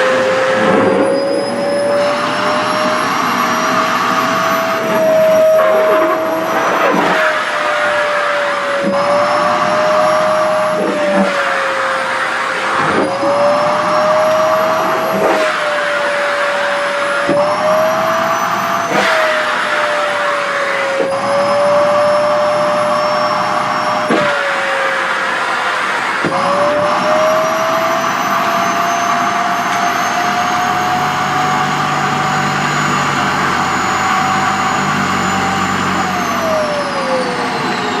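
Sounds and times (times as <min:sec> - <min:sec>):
vacuum cleaner running: 0:00.0 - 0:38.0.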